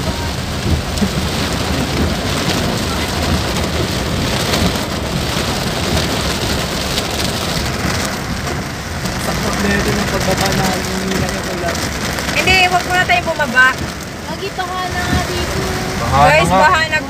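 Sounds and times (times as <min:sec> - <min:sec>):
heavy rain on a car: 0:00.0 - 0:17.0.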